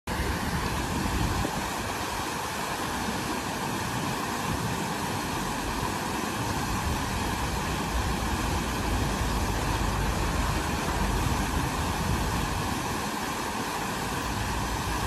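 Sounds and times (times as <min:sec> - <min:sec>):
fountain water splashing: 0:00.1 - 0:15.0.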